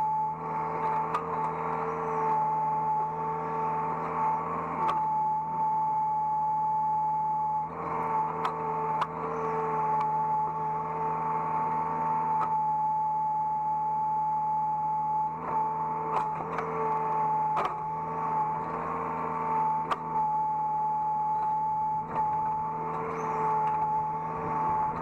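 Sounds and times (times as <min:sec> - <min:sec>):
excavator engine drone with whine: 0:00.0 - 0:25.0.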